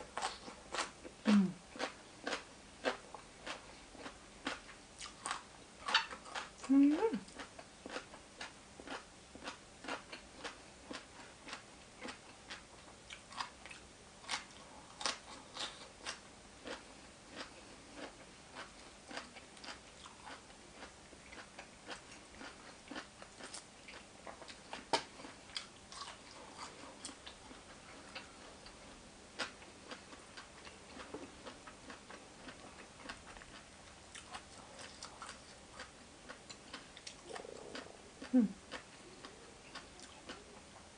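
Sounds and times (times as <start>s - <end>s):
person chewing: 0.1s - 6.7s, 7.3s - 40.7s.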